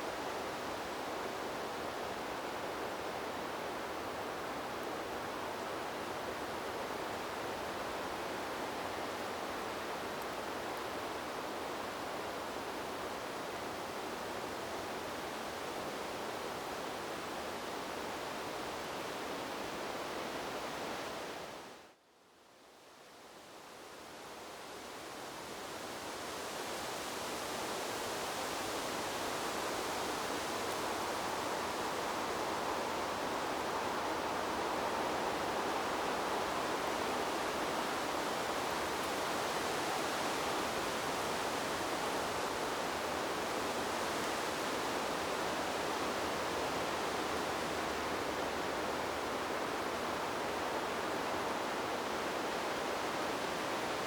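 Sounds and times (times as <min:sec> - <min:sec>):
wind blowing through trees: 0:00.0 - 0:54.0.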